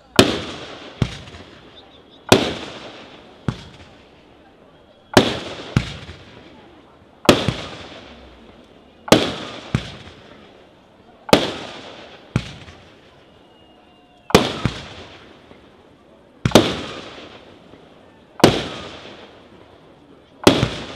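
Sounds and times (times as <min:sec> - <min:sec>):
fireworks bangs: 0:00.0 - 0:20.9.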